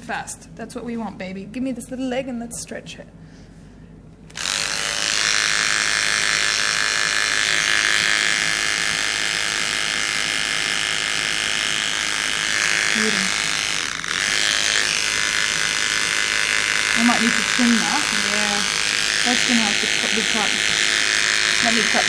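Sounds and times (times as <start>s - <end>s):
electric hair clippers buzzing: 4.3s - 22.0s.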